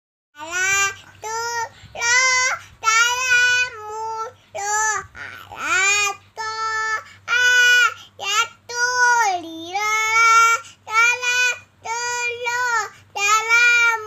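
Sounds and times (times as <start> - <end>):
boy singing unaccompanied: 0.4 - 14.0
faint low hum: 0.4 - 14.0.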